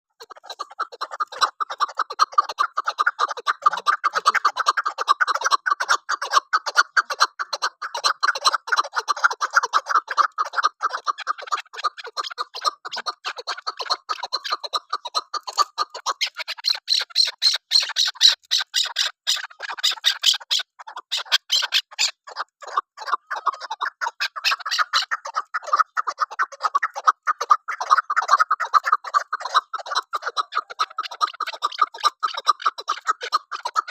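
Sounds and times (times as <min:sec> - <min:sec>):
partridge calling: 0:00.2 - 0:33.9.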